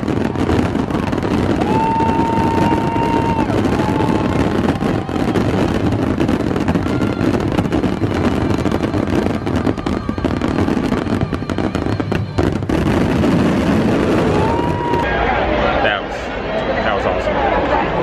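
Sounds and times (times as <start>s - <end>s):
fireworks bangs and crackling: 0.0s - 15.2s.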